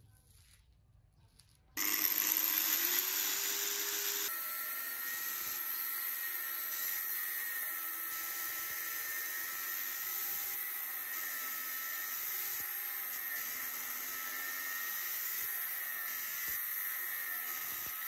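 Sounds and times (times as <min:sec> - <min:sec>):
angle grinder cutting steel: 0:01.8 - 0:18.0.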